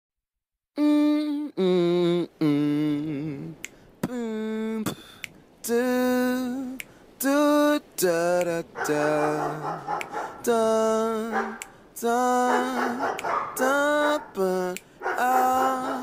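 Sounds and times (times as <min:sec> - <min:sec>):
person singing long held notes: 0:00.8 - 0:16.0.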